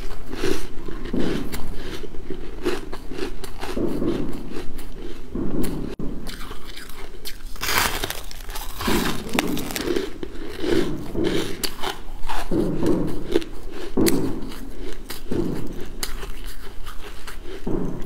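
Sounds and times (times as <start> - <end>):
person chewing crunchy ice: 0.0 - 18.0.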